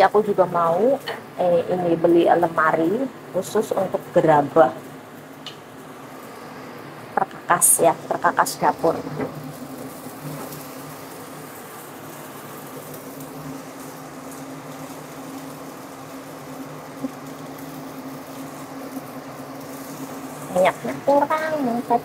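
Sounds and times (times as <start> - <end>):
extractor fan humming: 0.0 - 22.0.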